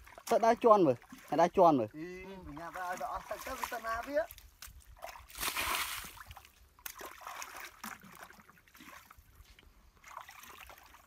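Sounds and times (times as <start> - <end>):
bare feet wading in muddy water: 0.0 - 11.0.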